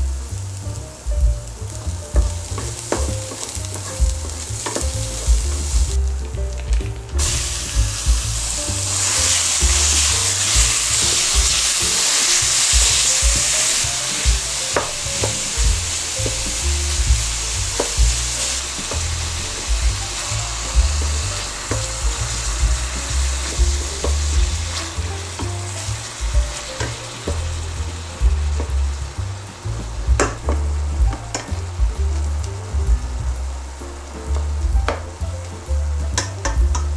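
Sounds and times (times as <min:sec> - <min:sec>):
food sizzling in a pan: 0:00.0 - 0:36.9
utensil tapping a pan: 0:01.0 - 0:36.9.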